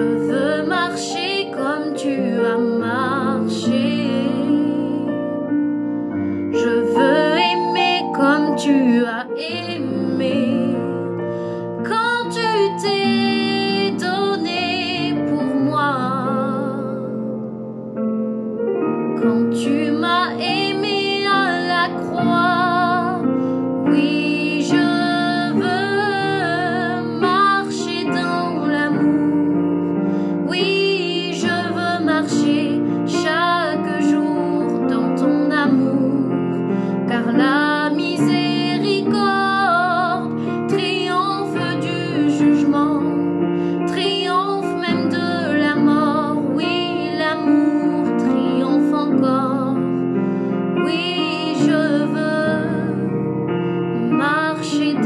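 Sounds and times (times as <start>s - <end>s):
woman singing a hymn: 0.0s - 5.5s, 6.5s - 17.6s, 18.2s - 50.1s, 50.7s - 55.0s
keyboard chords: 0.0s - 55.0s.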